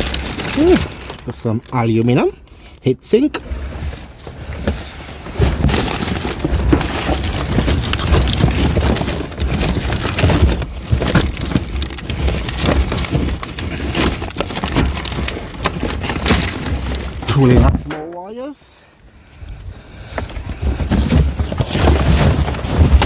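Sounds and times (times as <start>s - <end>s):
rustling through junk and cables: 0.0s - 23.0s.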